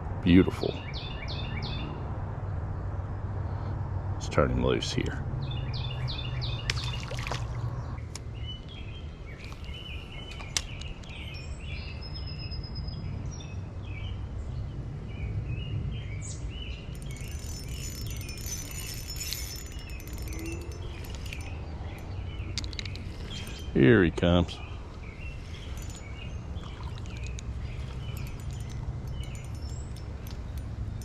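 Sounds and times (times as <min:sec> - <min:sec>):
small birds chirping: 0:05.0 - 0:31.0.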